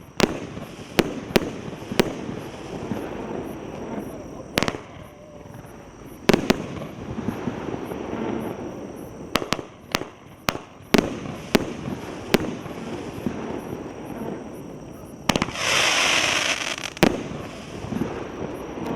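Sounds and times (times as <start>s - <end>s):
firework bangs: 0.0s - 18.9s
firework crackling burst: 0.0s - 18.9s.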